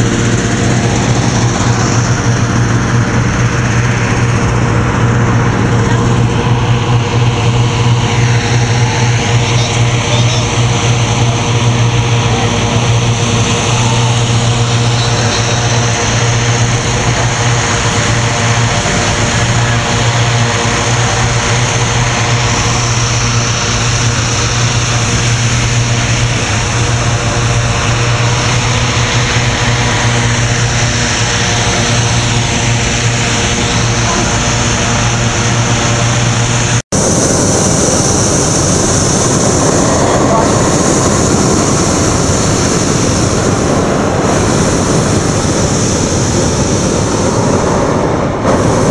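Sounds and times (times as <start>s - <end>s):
inflator fans humming: 0.0s - 48.9s
rushing air: 0.0s - 48.9s.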